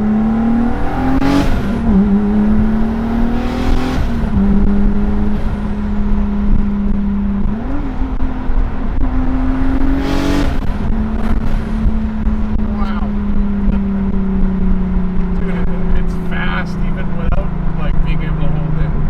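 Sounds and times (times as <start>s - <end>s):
car engine pulling under load: 0.0s - 19.0s
road noise: 0.0s - 19.0s.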